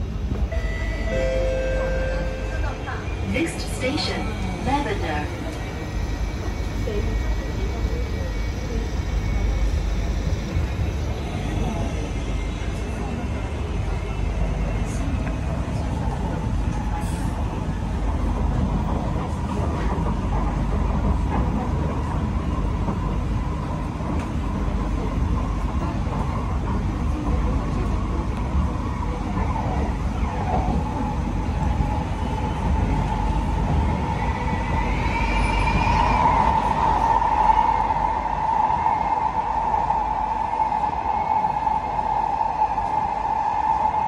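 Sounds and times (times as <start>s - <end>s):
train constant whine: 0.0s - 44.0s
train wheels rumbling on track: 0.0s - 44.0s.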